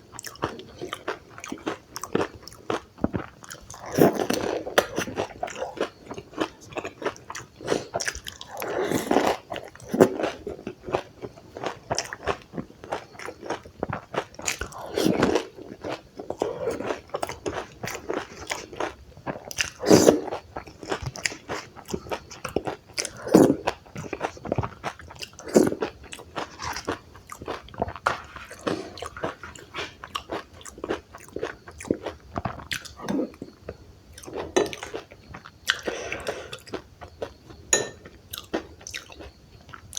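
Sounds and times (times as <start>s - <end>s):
crunchy bites and chewing: 0.1s - 39.9s.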